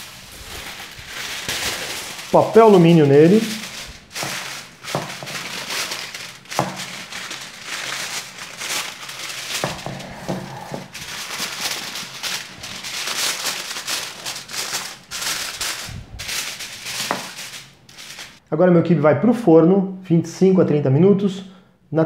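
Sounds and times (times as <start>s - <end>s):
aluminium foil crinkling: 0.0s - 18.4s.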